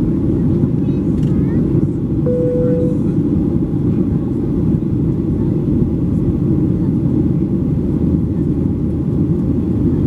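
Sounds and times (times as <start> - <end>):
airplane cabin low roar: 0.0 - 10.0.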